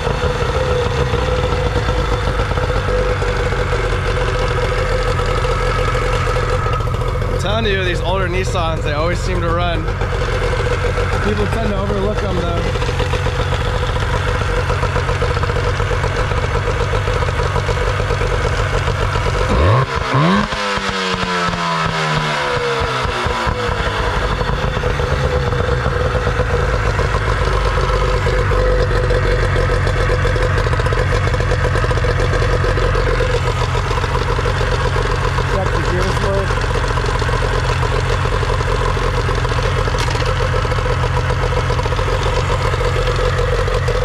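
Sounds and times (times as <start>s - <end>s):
outboard motor running: 0.0s - 44.0s.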